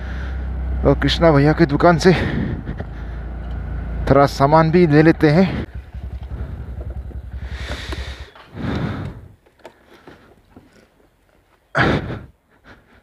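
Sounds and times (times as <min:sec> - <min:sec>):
scooter engine running: 0:00.0 - 0:11.9.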